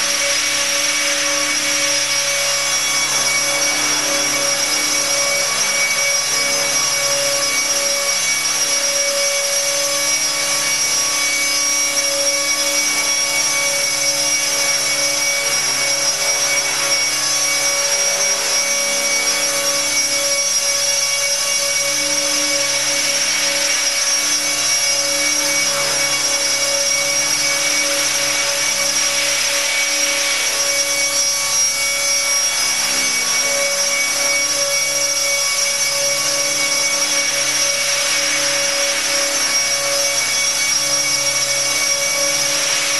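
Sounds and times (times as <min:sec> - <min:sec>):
electric motor whine: 0:00.0 - 0:42.9.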